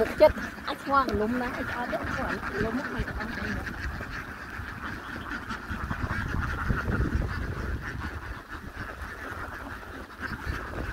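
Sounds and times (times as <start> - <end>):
flock of ducks quacking: 0.0 - 10.9.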